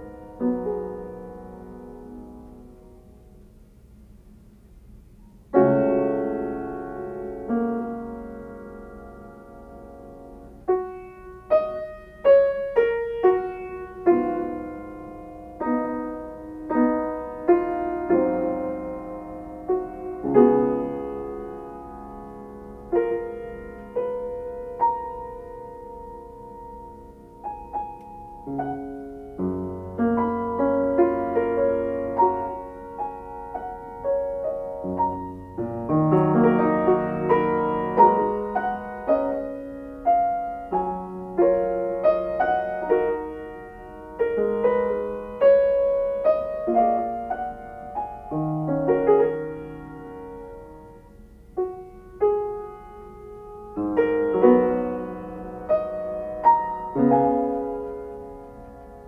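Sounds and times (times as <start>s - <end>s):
slow solo piano: 0.0s - 59.0s.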